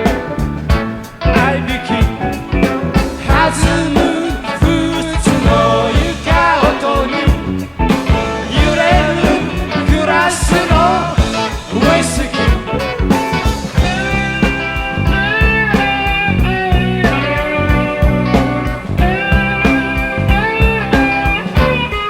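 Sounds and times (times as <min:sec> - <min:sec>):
rock band music with singing: 0:00.0 - 0:22.0.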